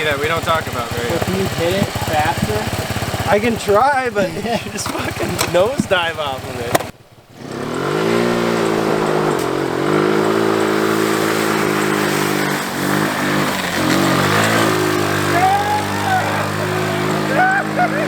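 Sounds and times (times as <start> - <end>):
small engine revving: 0.0 - 18.0.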